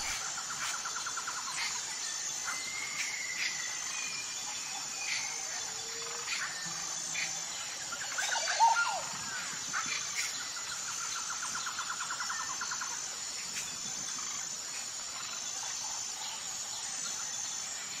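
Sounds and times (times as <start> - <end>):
birds calling: 0.0 - 17.6
insect drone with chirps: 0.0 - 18.0.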